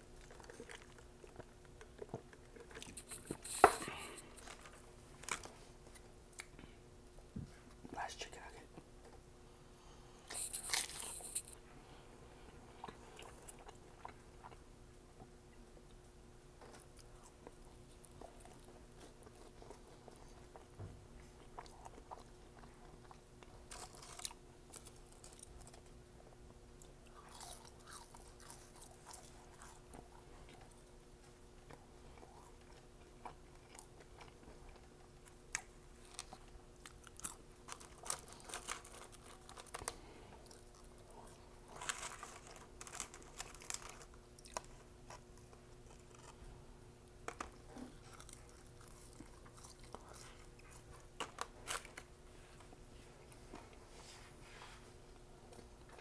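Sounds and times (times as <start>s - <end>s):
person chewing food: 0.0s - 6.7s, 12.4s - 16.0s, 16.6s - 46.6s, 47.2s - 53.8s
faint steady hum: 0.0s - 56.0s.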